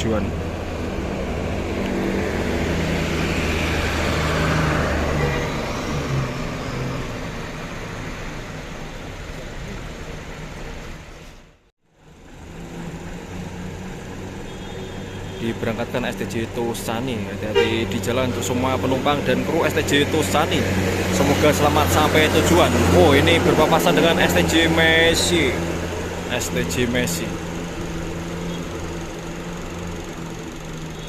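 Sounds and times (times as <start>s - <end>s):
bus diesel engine pulling away: 0.0s - 31.0s.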